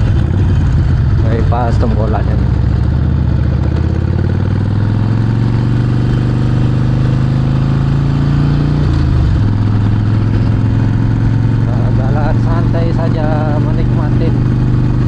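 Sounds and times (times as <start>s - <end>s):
motorcycle engine riding: 0.0s - 15.0s.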